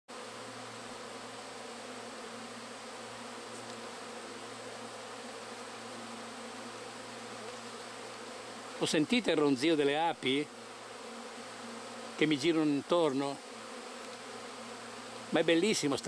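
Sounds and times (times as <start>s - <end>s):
bees buzzing: 0.1s - 16.0s.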